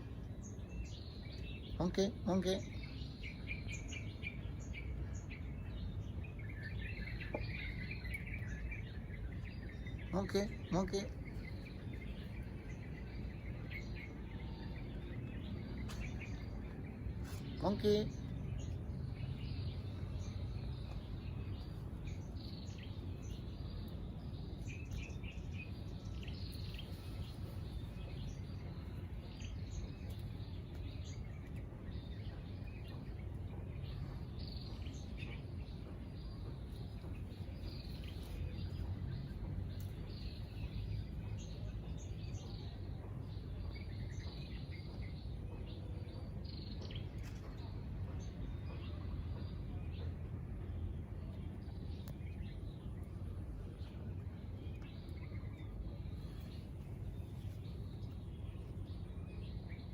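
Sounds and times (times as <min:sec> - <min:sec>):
small birds chirping: 0:00.0 - 0:59.9
steady low rumble: 0:00.0 - 0:59.9.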